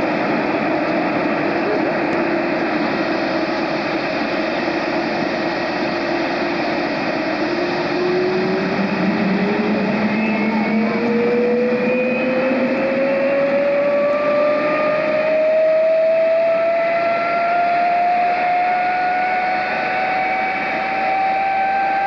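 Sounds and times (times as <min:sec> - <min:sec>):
jet engine rushing: 0:00.0 - 0:22.0
rising engine whine: 0:00.0 - 0:22.0.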